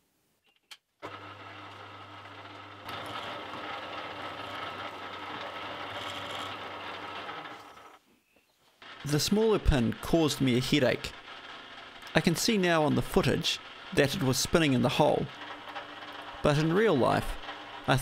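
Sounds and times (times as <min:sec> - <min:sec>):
drill bit cutting metal: 0:01.0 - 0:07.9, 0:08.8 - 0:18.0
drill press motor hum: 0:01.0 - 0:08.0, 0:08.8 - 0:18.0.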